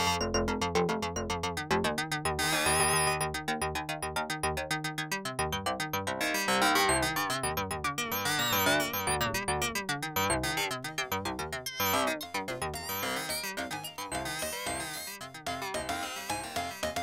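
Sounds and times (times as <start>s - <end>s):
synthesizer sequenced pattern: 0.0s - 15.1s.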